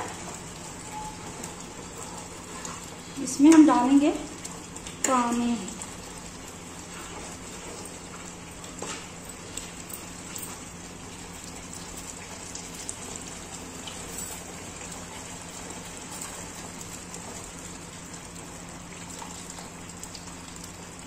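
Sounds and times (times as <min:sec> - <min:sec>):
sauce sizzling in a pan: 0:00.0 - 0:21.0.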